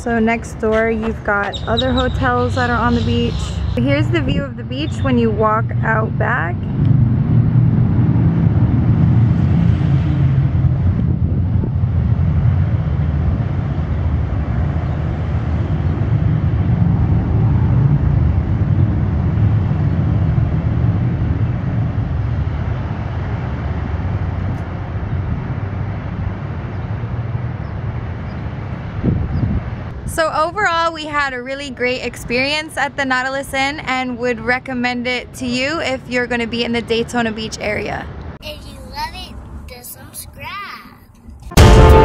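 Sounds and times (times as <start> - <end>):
wind buffeting microphone: 0.0 - 38.3.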